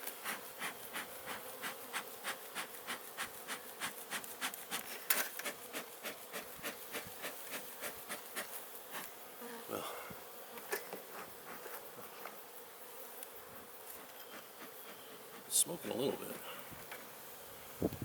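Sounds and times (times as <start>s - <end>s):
bee smoker bellows puffing: 0.0s - 9.2s, 9.9s - 12.4s, 13.8s - 18.0s
honeybees humming: 0.0s - 17.9s.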